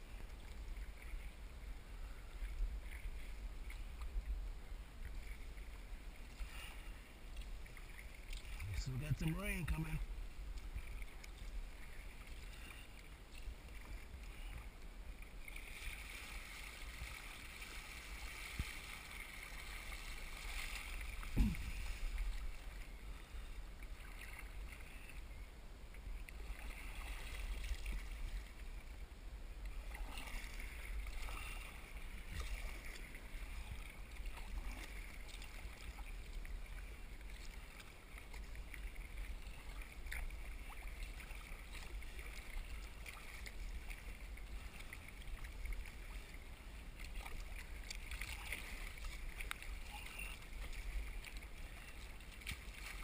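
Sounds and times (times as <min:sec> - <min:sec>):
paddle strokes in water: 0:00.0 - 0:53.0
water lapping against hull: 0:00.0 - 0:53.0.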